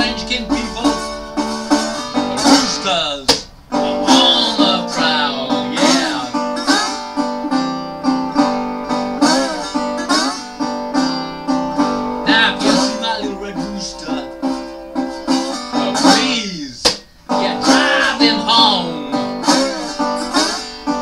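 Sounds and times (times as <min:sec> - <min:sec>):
slide resonator guitar blues: 0:00.0 - 0:21.0.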